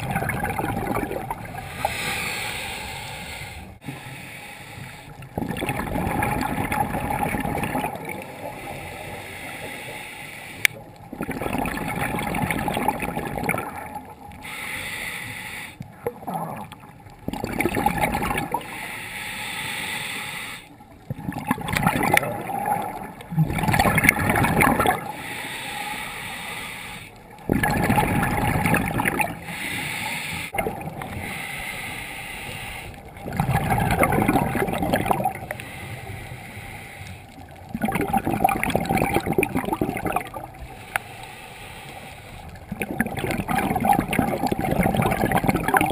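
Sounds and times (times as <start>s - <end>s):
underwater regulator bubbling: 0.0s - 4.2s, 5.1s - 9.7s, 10.5s - 15.0s, 15.8s - 19.0s, 20.9s - 45.9s.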